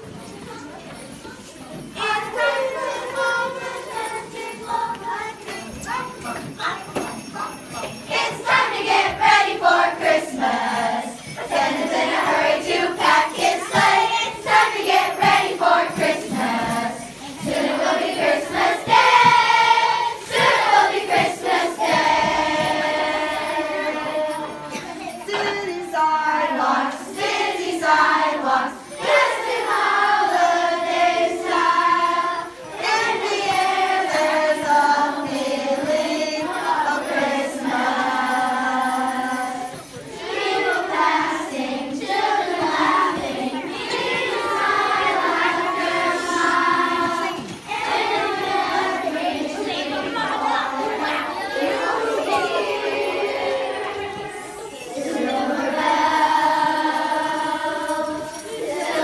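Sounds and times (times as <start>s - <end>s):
children singing a carol: 0.0s - 59.0s.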